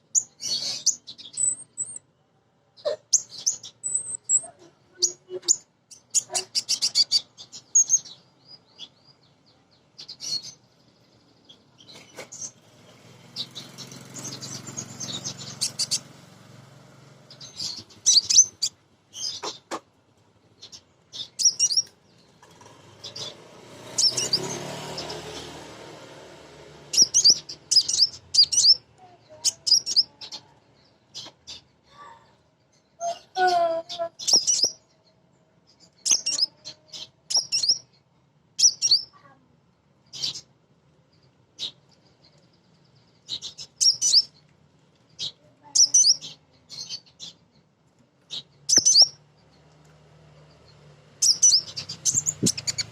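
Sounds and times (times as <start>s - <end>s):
bird chirping and chattering: 0.0s - 2.1s, 2.8s - 25.4s, 26.8s - 39.4s, 40.0s - 52.9s.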